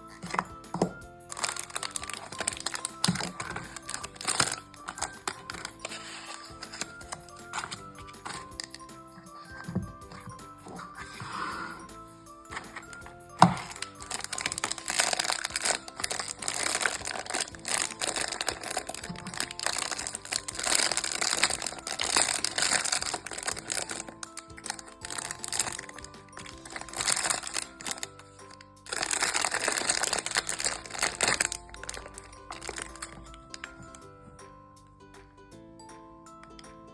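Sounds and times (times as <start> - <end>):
plastic wrapping crinkling: 0.0 - 11.5, 12.5 - 28.3, 28.9 - 33.9
background music: 0.0 - 36.9
soft bell-like melody: 0.0 - 36.9.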